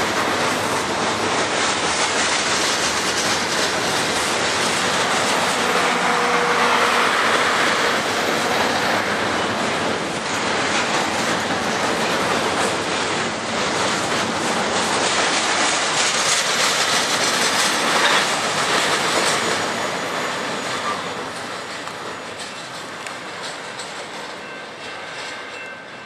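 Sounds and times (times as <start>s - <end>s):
train wheels clattering over rail joints: 0.0s - 26.0s.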